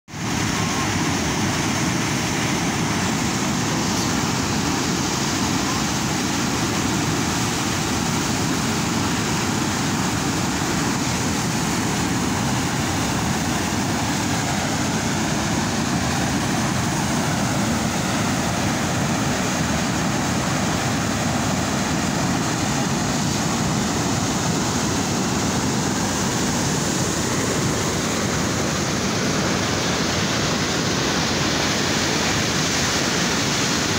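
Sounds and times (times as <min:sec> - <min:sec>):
water rushing over weir: 0:00.1 - 0:33.9.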